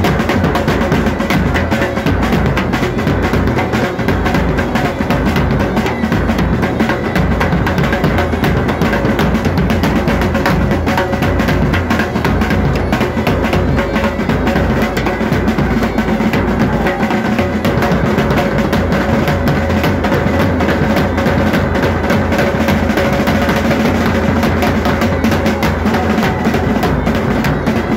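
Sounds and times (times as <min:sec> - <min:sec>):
fast drumming: 0:00.0 - 0:27.9.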